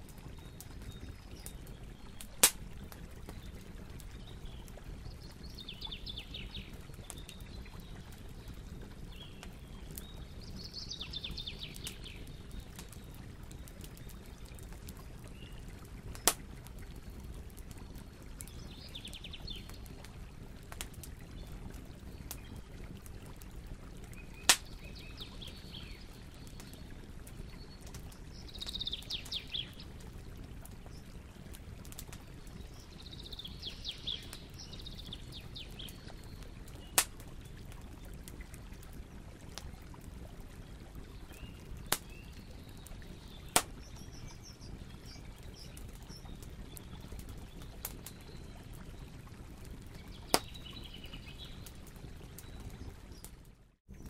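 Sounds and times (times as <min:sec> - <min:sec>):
bonfire burning: 0:00.0 - 0:54.0
fire popping: 0:00.0 - 0:54.0.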